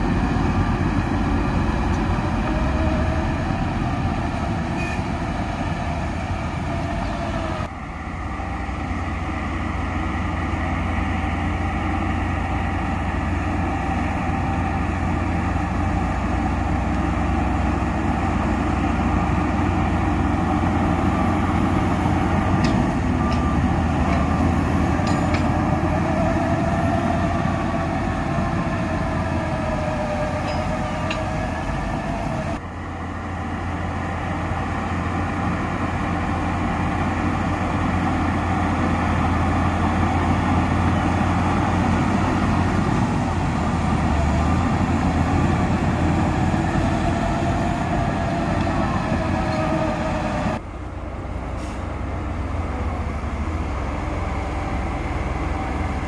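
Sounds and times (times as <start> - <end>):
bulldozer diesel engine rumbling: 0.0 - 56.0.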